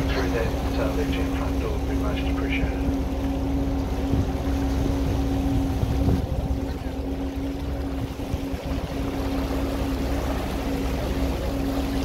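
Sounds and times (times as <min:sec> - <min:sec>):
boat engine droning: 0:00.0 - 0:12.0
water rushing past hull: 0:00.0 - 0:12.0.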